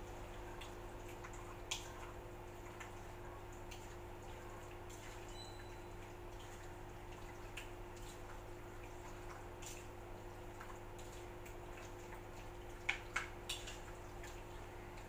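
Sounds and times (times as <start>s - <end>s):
wet squishing of raw chicken: 0.1s - 14.7s.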